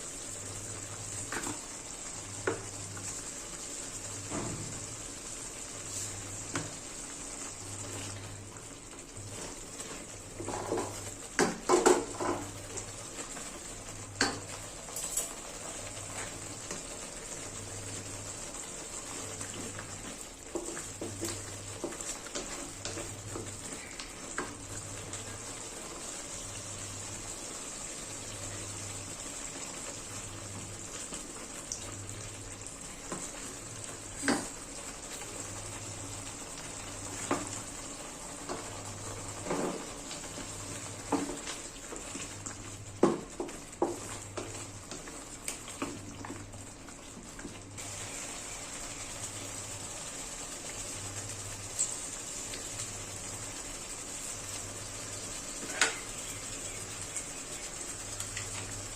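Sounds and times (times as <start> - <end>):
food sizzling in frying pan: 0.0 - 58.9.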